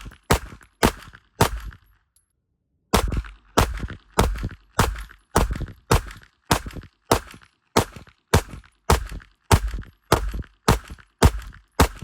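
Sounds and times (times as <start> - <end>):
handgun shots: 0.0 - 1.9, 2.9 - 12.0.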